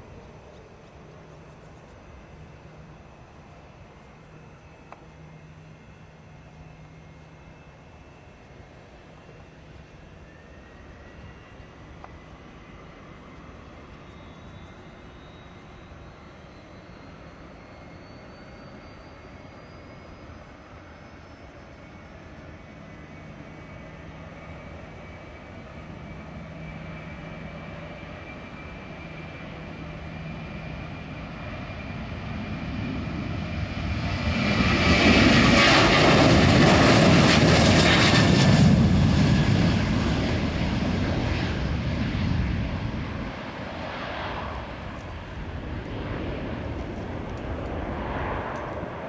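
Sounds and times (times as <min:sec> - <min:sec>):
jet engines rumbling and whining: 0:00.0 - 0:49.0.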